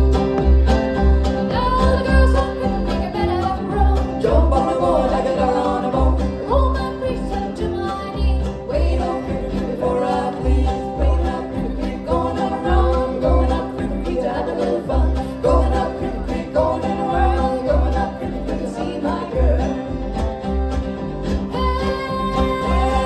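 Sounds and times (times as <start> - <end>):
bluegrass band playing: 0.0 - 23.0.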